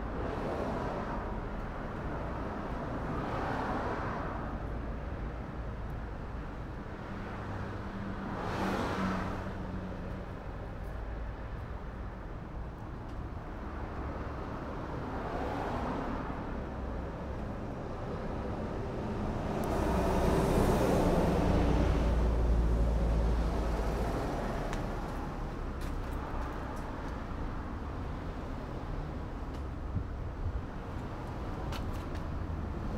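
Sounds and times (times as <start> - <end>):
vehicles passing by: 0.0 - 32.9.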